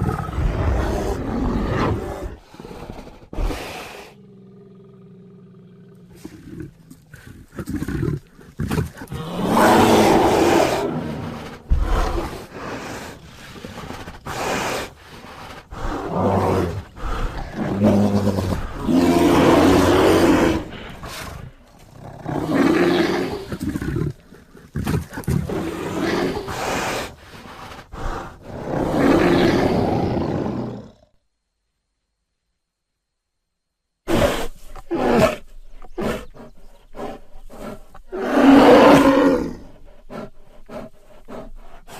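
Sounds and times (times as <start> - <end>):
bear growling and roaring: 0.0 - 31.2, 34.1 - 41.9.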